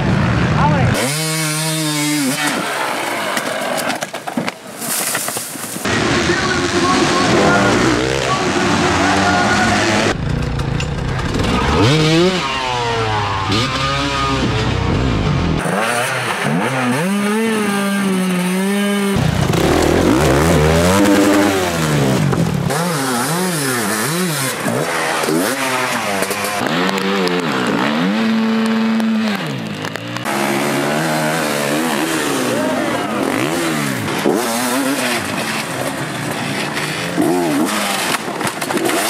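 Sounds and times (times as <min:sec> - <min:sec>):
dirt bike engines revving: 0:00.0 - 0:04.9, 0:05.8 - 0:39.0.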